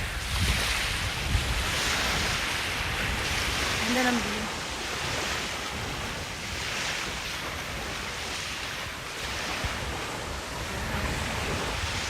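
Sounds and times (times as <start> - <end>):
waves washing in: 0.0 - 12.0
wind buffeting microphone: 0.0 - 12.0.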